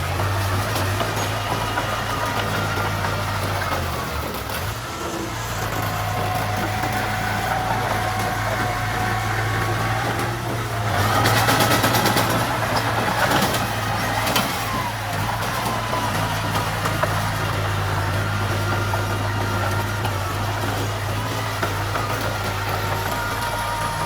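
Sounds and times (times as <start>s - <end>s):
diesel engine running: 0.0s - 24.0s
rapid clatter: 0.0s - 24.0s
whining tone: 0.0s - 24.0s.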